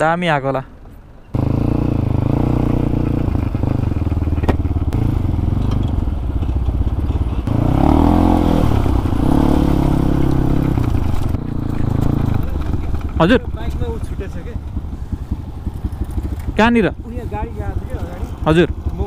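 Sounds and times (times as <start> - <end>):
motorcycle engine revving: 1.3 - 19.0.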